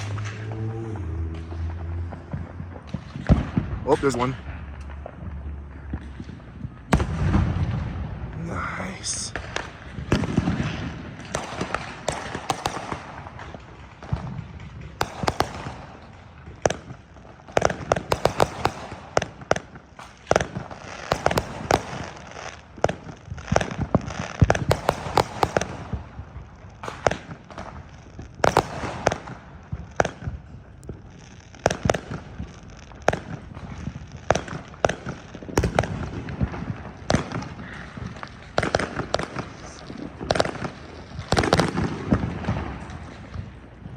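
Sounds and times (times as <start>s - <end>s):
firecrackers cracking and popping: 0.0s - 43.9s
rumble of firework booms: 0.0s - 43.9s.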